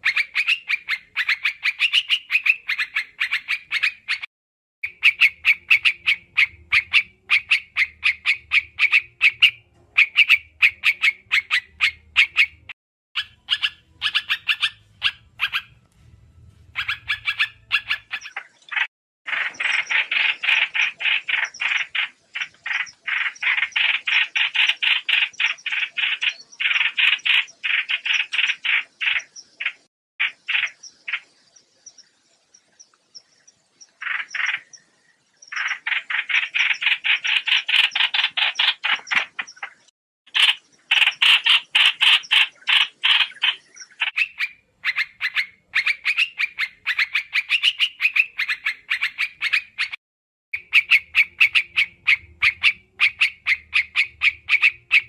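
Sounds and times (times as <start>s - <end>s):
bird chattering call: 0.0s - 15.8s, 16.7s - 31.3s, 33.9s - 34.8s, 35.5s - 50.0s, 50.6s - 55.0s.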